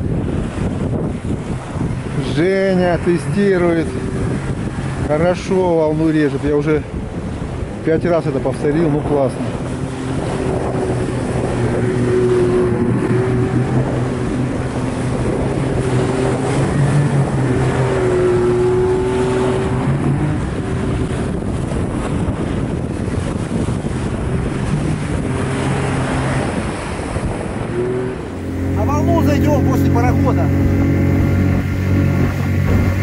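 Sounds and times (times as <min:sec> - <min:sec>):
outboard boat motor running: 0:00.0 - 0:33.0
wind buffeting microphone: 0:00.0 - 0:33.0.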